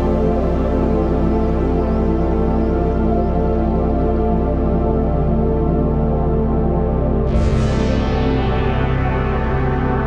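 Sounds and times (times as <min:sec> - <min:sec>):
slow ambient synth music: 0:00.0 - 0:10.0.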